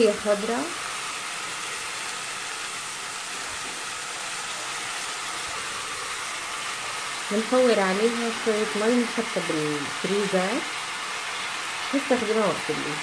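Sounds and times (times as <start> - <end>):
green beans sizzling in oil: 0.0 - 13.0.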